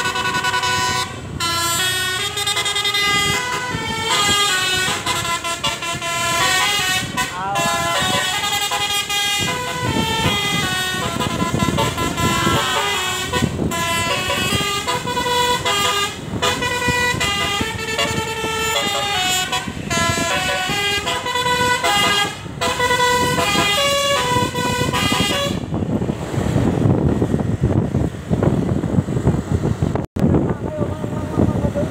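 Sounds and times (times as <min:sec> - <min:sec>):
bus horn playing a tune: 0:00.0 - 0:26.0
engine noise: 0:00.0 - 0:31.9.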